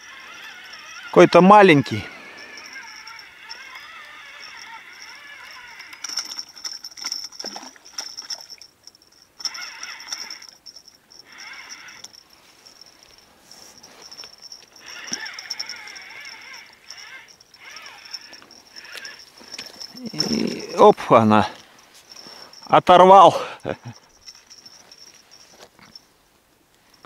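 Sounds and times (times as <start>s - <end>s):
fishing reel whining: 0.0s - 26.0s.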